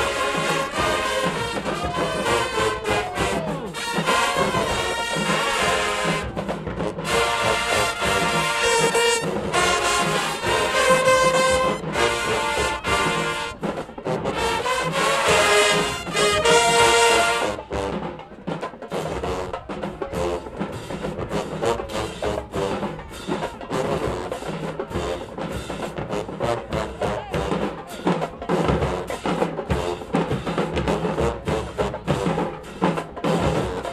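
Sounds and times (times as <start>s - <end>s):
brass and sousaphones: 0.0s - 33.9s
drumline beat: 0.0s - 33.9s.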